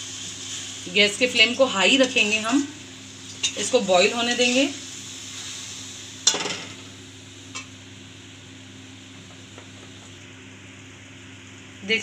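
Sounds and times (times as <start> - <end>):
pan hissing on gas flame: 0.0 - 12.0.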